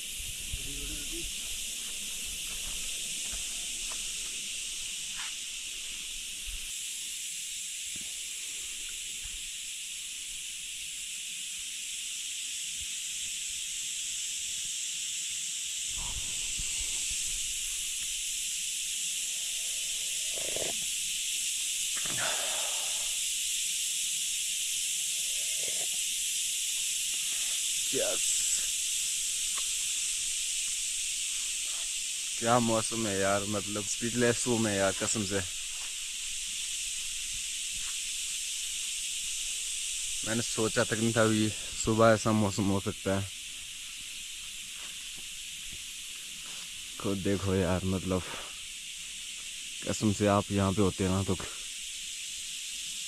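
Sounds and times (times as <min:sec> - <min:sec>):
high-pitched hiss: 0:00.0 - 0:53.0.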